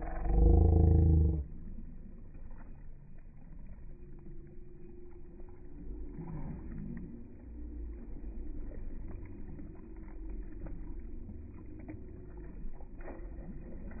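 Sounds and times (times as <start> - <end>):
water splashing in a pool: 0.0 - 14.0.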